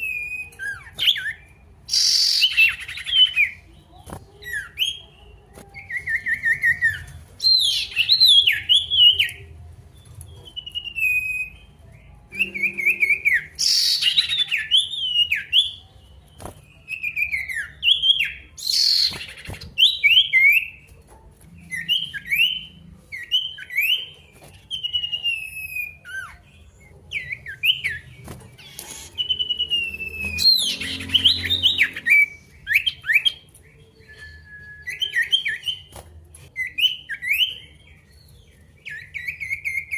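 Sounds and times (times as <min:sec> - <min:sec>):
bird whistled song: 0:00.0 - 0:03.6, 0:04.4 - 0:09.4, 0:10.0 - 0:20.9, 0:21.6 - 0:35.9, 0:36.6 - 0:39.9.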